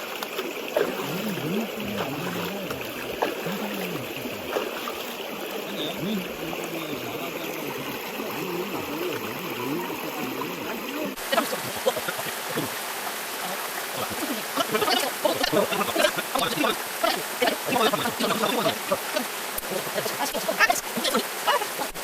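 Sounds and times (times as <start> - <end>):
stream water rushing over rocks: 0.0 - 22.0
water splashing: 0.0 - 22.0.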